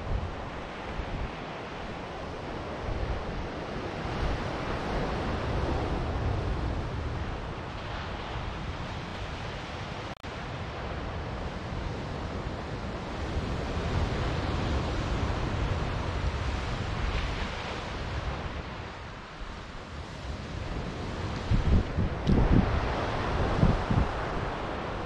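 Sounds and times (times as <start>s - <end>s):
ocean waves washing onto beach: 0.0s - 25.0s
wind rumbling on microphone: 0.0s - 25.0s.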